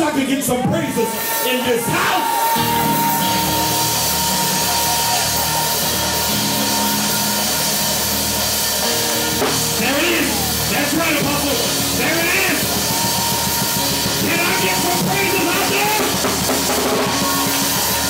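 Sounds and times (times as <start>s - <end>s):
drum kit: 1.9s - 18.0s
sustained keyboard chords: 2.6s - 18.0s.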